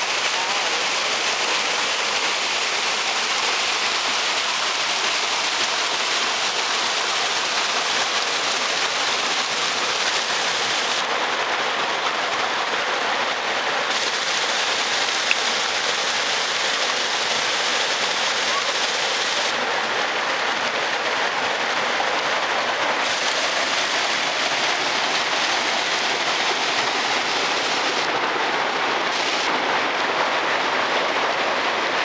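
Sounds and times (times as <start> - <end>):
water rushing over rocks: 0.0 - 32.0.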